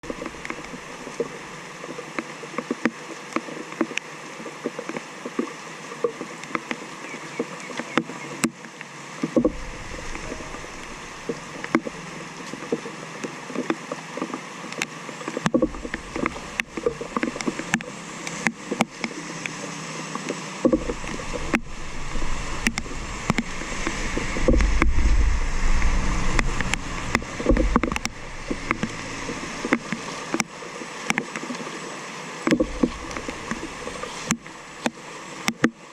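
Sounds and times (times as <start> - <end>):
rainwater splashing into drain: 0.0 - 35.8
deep water rushing: 0.0 - 35.9.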